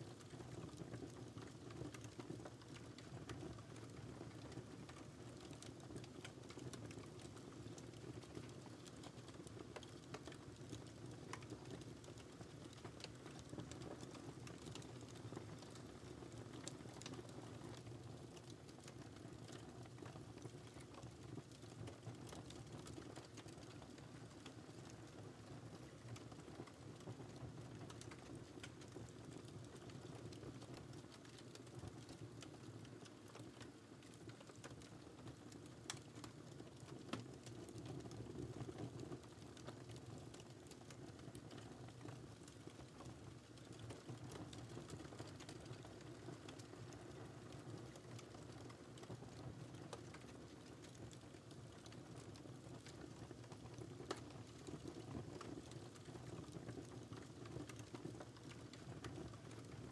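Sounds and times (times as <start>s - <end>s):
fire crackles and pops: 0.0s - 59.9s.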